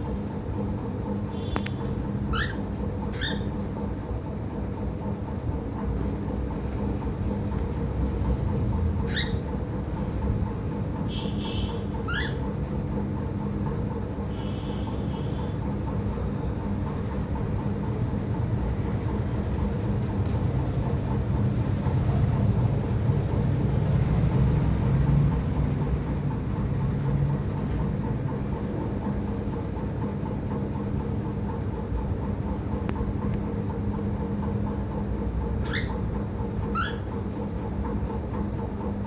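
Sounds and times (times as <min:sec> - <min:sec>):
constant hum: 0:00.0 - 0:39.0.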